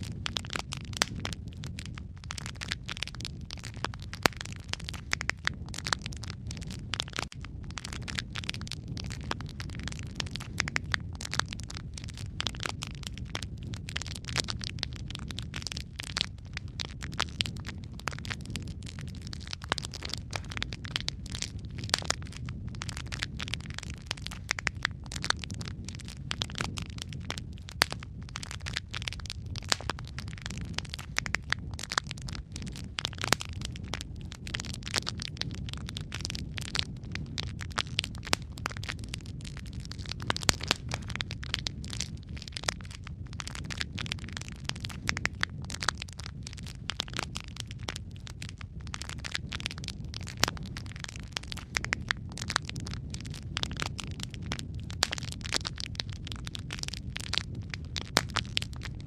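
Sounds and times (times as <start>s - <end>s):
fire burning with low rumble: 0.0s - 59.0s
wood crackling and popping: 0.0s - 59.0s.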